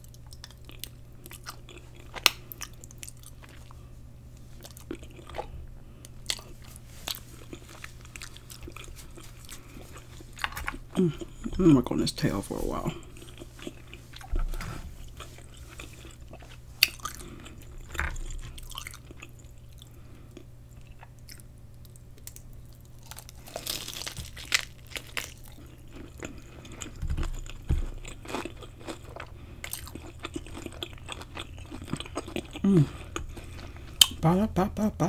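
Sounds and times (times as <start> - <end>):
crisp crunching and chewing: 0.0 - 3.8, 4.4 - 11.4, 12.9 - 14.4, 15.0 - 34.2.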